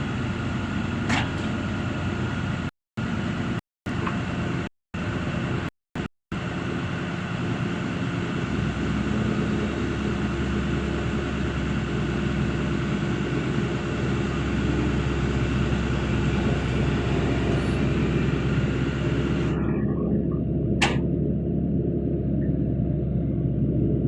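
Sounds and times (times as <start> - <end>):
heavy machine engine running: 0.0 - 5.7, 6.3 - 24.0.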